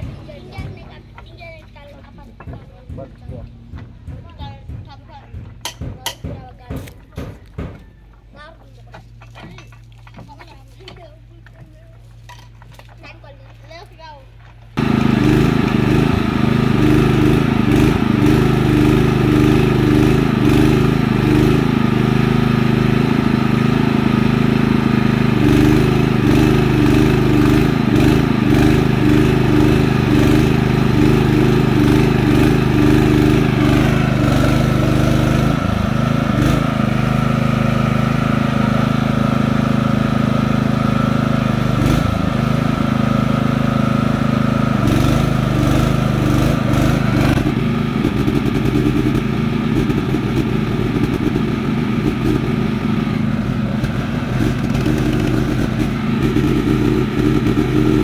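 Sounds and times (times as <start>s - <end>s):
petrol generator running: 0.0s - 5.8s, 6.6s - 58.0s.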